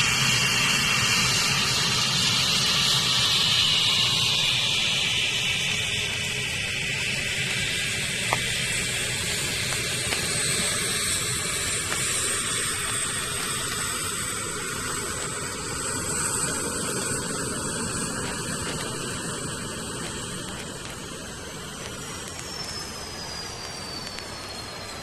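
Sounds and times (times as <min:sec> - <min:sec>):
gas turbine engine whine: 0:00.0 - 0:25.0.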